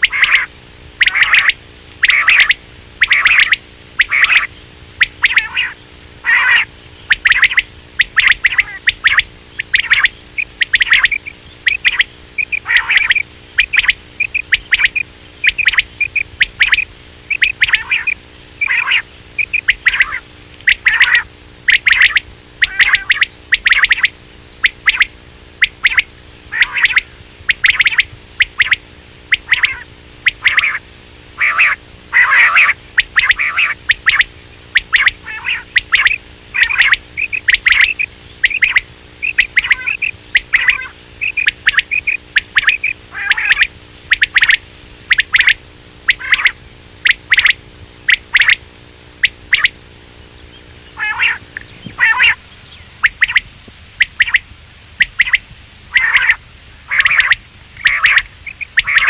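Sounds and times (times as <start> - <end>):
quail calling: 0.0 - 54.4, 55.0 - 59.0
faint steady hum: 0.0 - 59.0.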